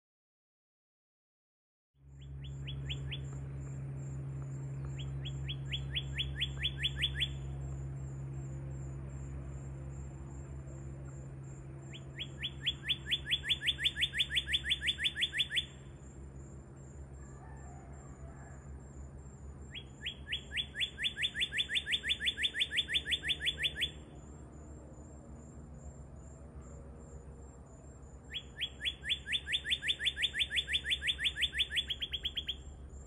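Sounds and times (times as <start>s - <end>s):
steady low hum: 2.0s - 33.0s.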